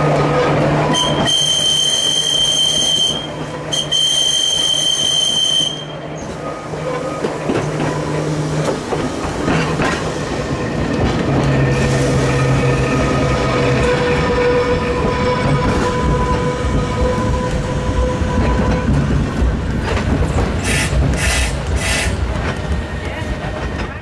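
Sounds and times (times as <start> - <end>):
tram rumbling: 0.0 - 24.0
tram wheels squealing: 0.3 - 24.0.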